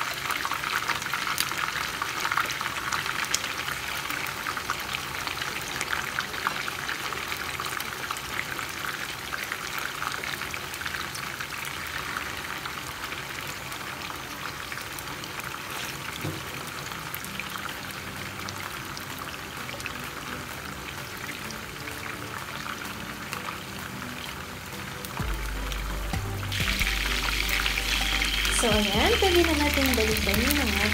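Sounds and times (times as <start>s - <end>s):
chicken sizzling in hot oil: 0.0s - 30.9s.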